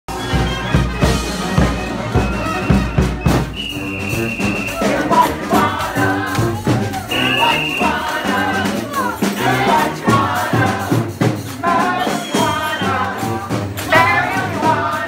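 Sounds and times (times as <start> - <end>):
drum beats: 0.1 - 15.0
wind instruments playing: 0.1 - 15.0.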